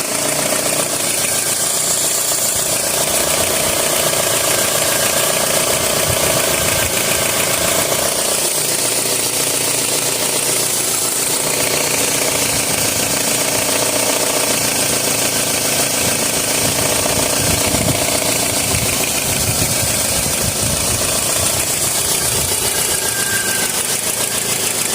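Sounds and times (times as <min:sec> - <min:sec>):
car engine running with rattle: 0:00.0 - 0:24.9.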